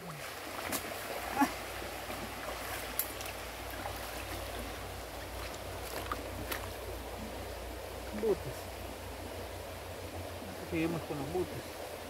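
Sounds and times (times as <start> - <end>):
river running over stones: 0.0 - 12.0.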